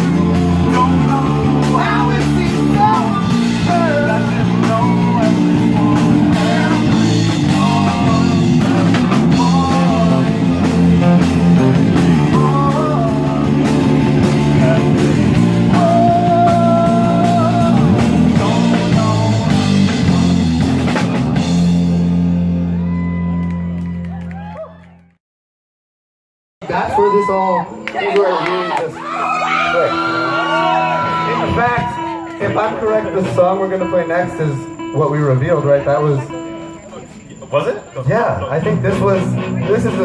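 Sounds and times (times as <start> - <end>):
rock band playing: 0.0 - 24.2, 27.7 - 37.4, 38.6 - 40.0.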